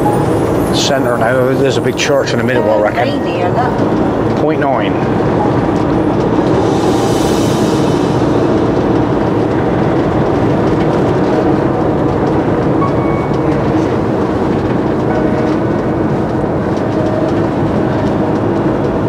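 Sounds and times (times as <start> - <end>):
motorhome engine and tyre rumble: 0.0 - 19.0.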